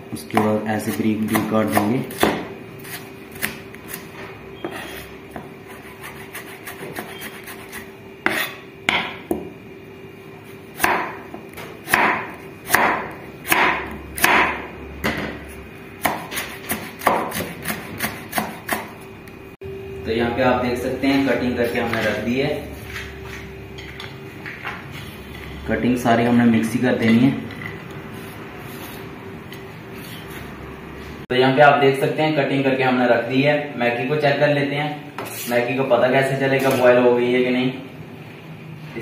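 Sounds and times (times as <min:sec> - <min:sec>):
faint steady hum: 0:00.0 - 0:35.3.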